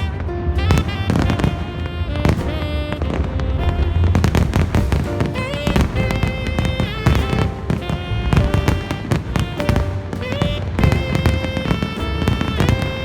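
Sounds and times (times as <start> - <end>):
fireworks bangs and crackling: 0.0 - 13.0
loud music with held notes: 0.0 - 13.0.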